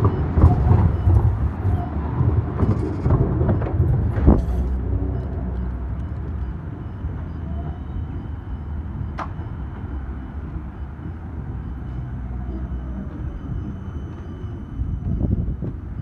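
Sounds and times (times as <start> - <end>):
tram rumbling on rails: 0.0 - 16.0.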